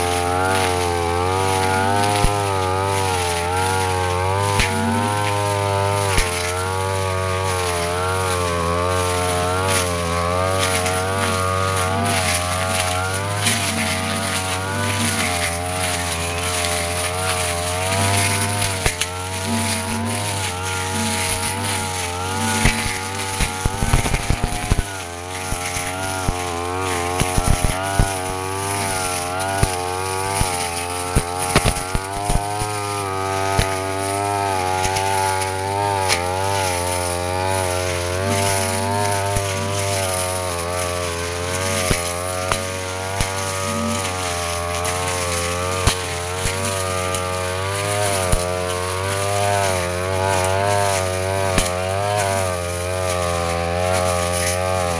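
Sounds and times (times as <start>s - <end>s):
brush cutter engine cutting grass: 0.0s - 54.9s.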